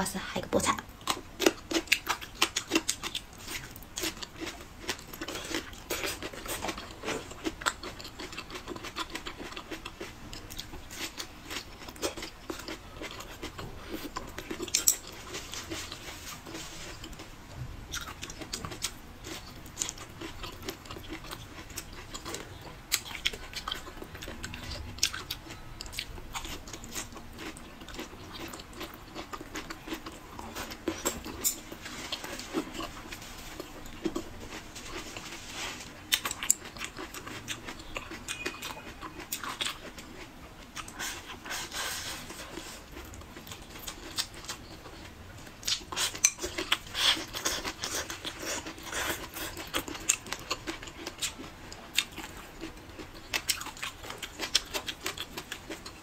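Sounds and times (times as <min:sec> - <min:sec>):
wet chewing: 0:00.9 - 0:17.3, 0:17.9 - 0:56.0.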